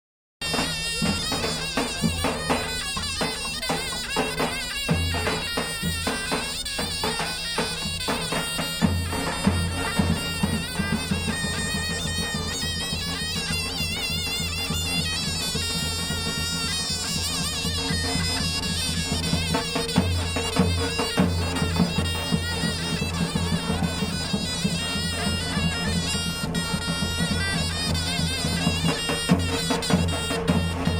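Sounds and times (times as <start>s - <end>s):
shrill reed wind instrument melody: 0.4s - 30.9s.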